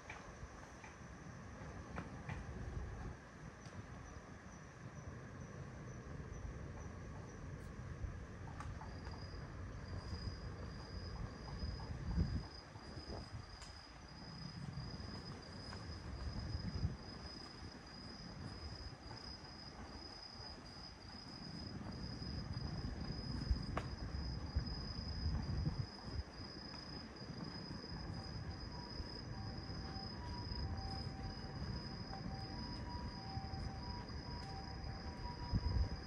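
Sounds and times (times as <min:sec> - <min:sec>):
cricket chirping: 0:00.0 - 0:36.0
low background rumble: 0:00.4 - 0:36.0.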